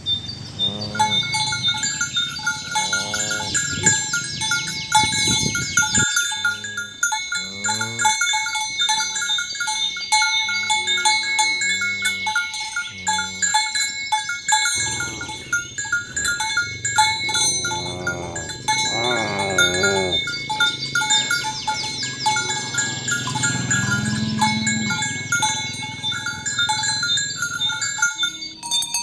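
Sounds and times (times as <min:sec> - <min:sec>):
cowbells clanking: 0:00.0 - 0:29.0
cow mooing: 0:00.4 - 0:09.4, 0:10.3 - 0:27.2.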